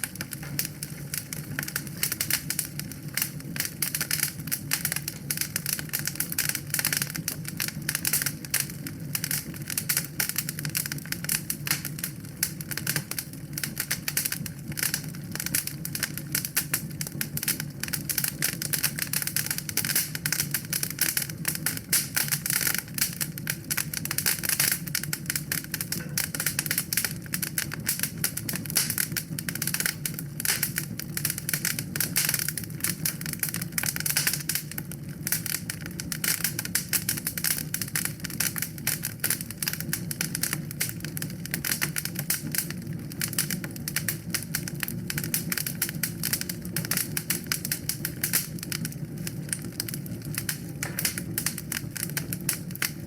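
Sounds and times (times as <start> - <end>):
low rumble of flames: 0.0 - 53.0
wood fire crackling: 0.0 - 53.0.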